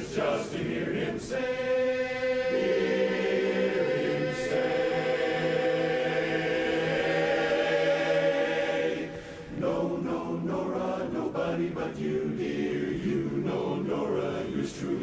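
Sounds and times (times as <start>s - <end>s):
men's chorus singing a cappella: 0.0s - 15.0s.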